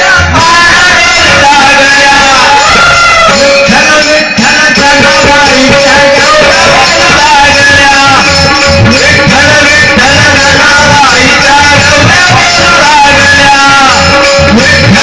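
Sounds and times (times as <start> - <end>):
instrumental accompaniment: 0.0 - 15.0
person singing with gliding notes: 0.0 - 15.0.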